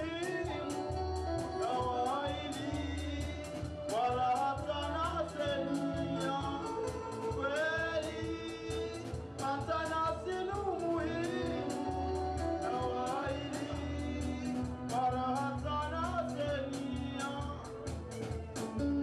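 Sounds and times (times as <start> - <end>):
bass: 0.0 - 19.0
guitar: 0.0 - 19.0
man singing into a microphone: 0.0 - 19.0.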